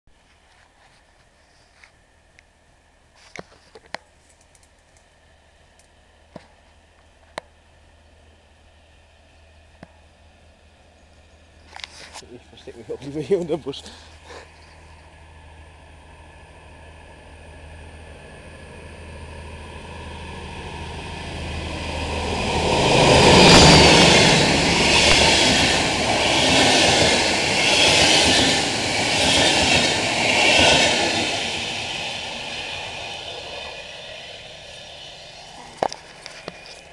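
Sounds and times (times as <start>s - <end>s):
passenger train passing: 5.0s - 36.9s.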